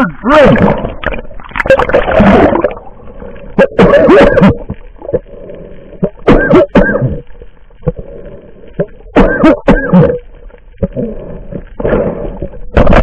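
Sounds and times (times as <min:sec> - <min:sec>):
underwater gurgling and bubbling: 0:00.0 - 0:13.0.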